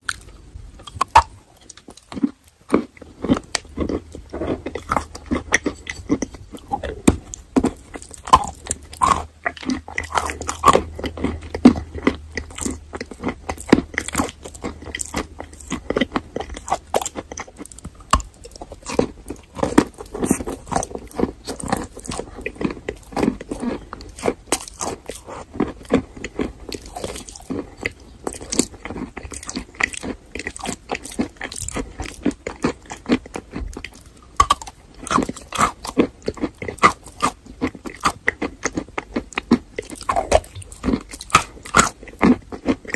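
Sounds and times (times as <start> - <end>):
crunchy chewing close-up: 0.0 - 42.9.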